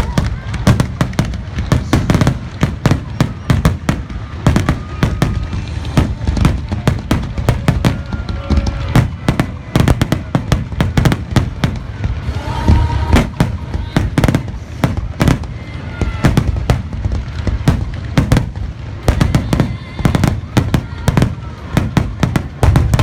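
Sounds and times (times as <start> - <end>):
fireworks bangs and crackles: 0.0 - 23.0
heavy low rumble: 0.0 - 23.0.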